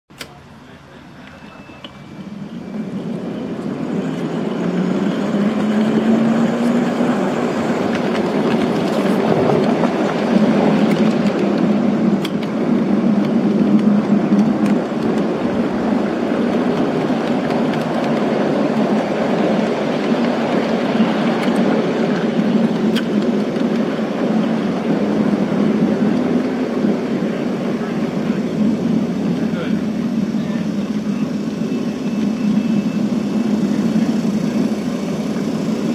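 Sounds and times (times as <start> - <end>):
model locomotive running: 0.1 - 35.9.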